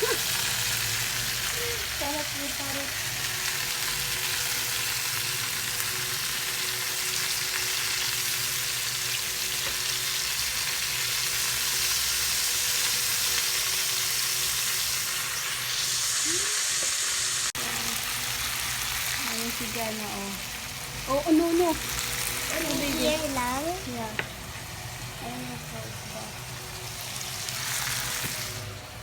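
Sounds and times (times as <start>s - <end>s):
chicken sizzling in frying: 0.0s - 29.0s.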